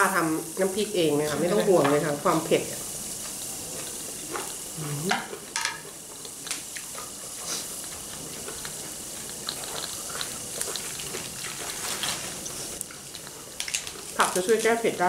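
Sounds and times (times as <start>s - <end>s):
squid sizzling on grill: 0.0s - 15.0s.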